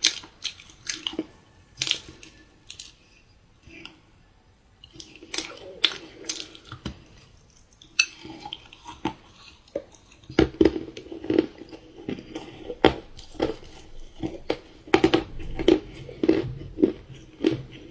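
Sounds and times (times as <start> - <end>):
person chewing food: 0.0 - 4.2, 4.8 - 17.9.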